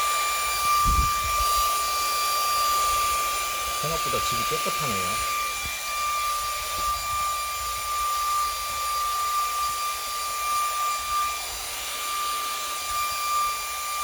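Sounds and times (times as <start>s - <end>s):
handheld vacuum cleaner running: 0.0s - 14.0s.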